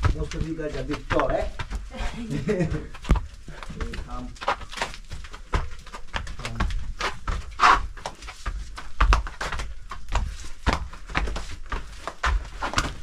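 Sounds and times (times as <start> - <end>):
footsteps in flip-flops on cave floor: 0.0 - 13.0.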